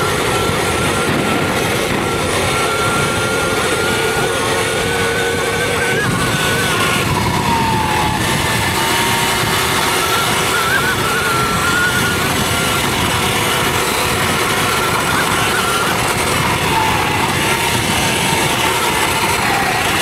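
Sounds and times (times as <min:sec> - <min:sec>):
electric motor whine: 0:00.0 - 0:20.0
steady rushing noise: 0:00.0 - 0:20.0.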